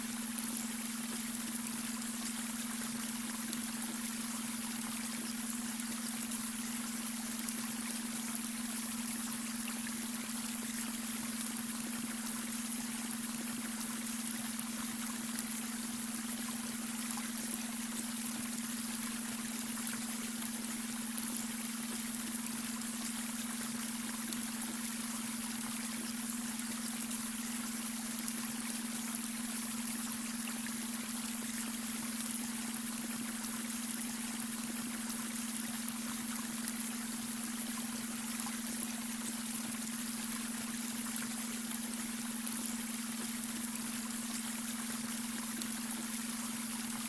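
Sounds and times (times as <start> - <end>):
brook water flowing over stones: 0.0 - 47.0.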